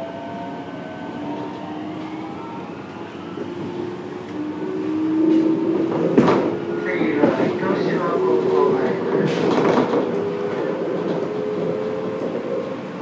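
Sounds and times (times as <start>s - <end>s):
wheel and rail noise: 1.3s - 13.0s.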